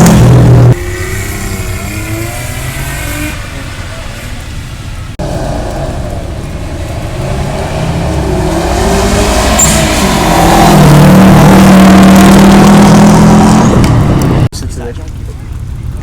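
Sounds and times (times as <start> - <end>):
car engine at high revs: 0.0 - 14.5.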